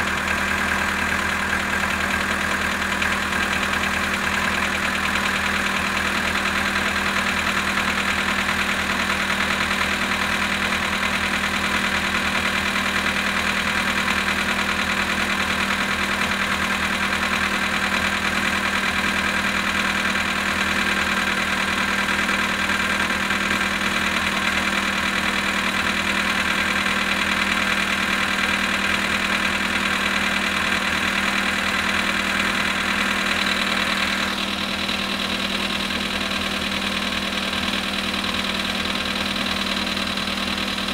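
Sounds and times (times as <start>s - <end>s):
car engine idling: 0.0s - 40.9s
engine knock: 0.0s - 40.9s.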